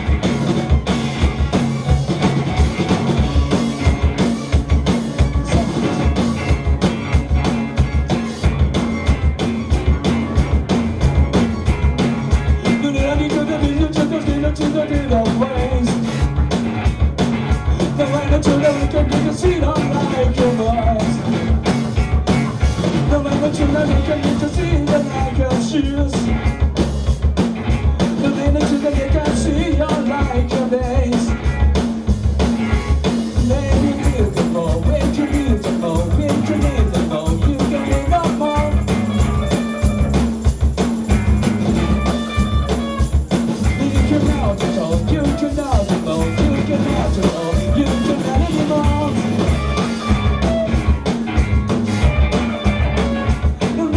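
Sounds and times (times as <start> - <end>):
drum kit fast beat: 0.0 - 53.9
live rock band playing: 0.0 - 53.9.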